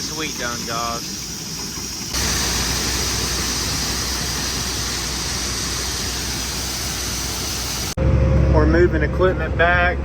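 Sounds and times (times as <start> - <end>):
low engine hum: 0.3 - 10.0.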